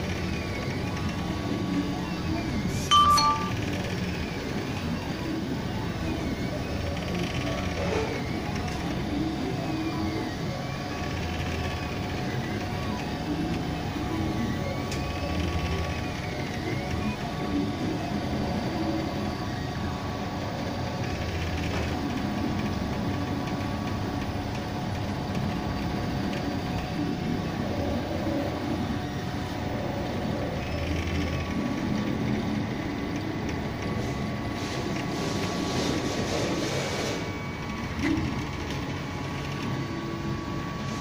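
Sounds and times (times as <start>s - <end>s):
steady machine hum: 0.0s - 41.0s.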